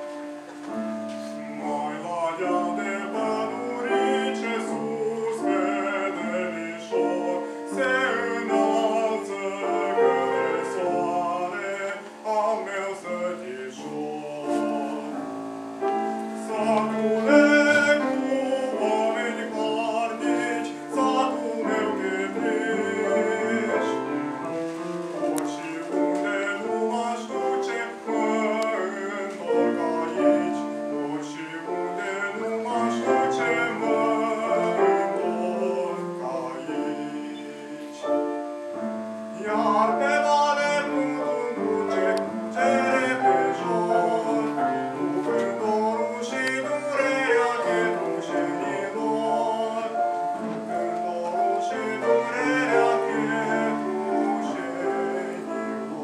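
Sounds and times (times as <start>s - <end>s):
man singing with vibrato: 0.0s - 56.0s
piano accompaniment: 0.0s - 56.0s.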